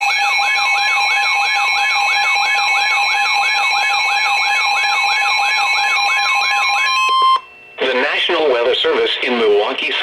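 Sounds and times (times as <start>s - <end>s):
weather radio alert alarm: 0.0s - 8.4s.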